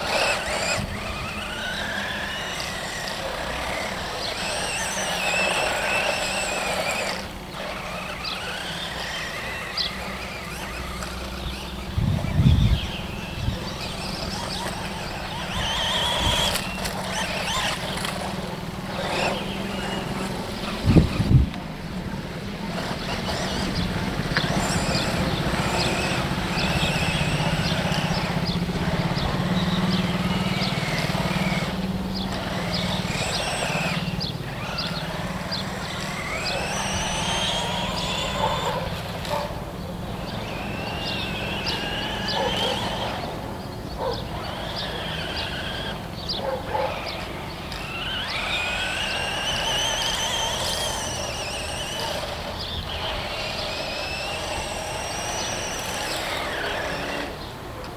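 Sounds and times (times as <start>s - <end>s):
electric motor whining: 0.0s - 57.9s
low engine drone: 0.0s - 57.9s.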